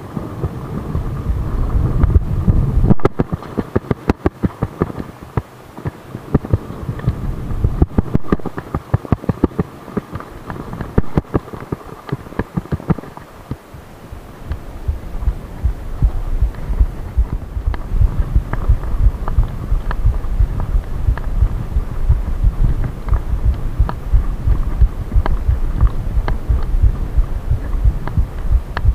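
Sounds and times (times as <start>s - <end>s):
tyres rumbling on dirt trail: 0.0s - 28.9s.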